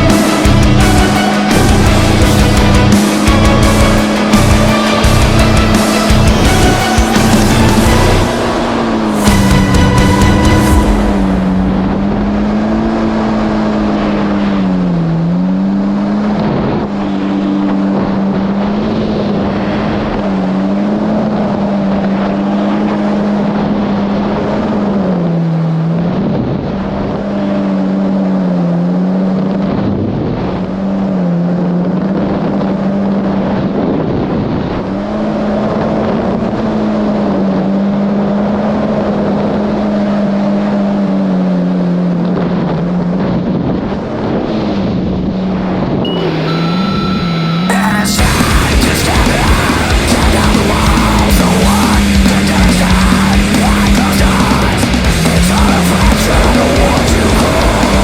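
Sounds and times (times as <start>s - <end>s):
jet ski engine at high speed: 0.0s - 58.0s
water and wind rushing: 0.0s - 58.0s.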